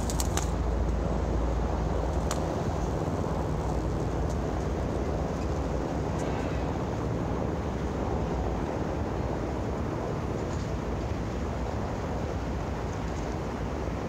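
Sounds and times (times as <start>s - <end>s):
low rumbling outdoor noise: 0.0s - 14.0s.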